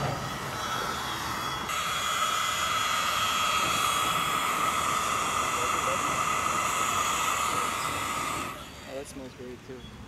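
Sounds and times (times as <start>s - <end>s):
electric air blower whining: 0.0s - 9.7s.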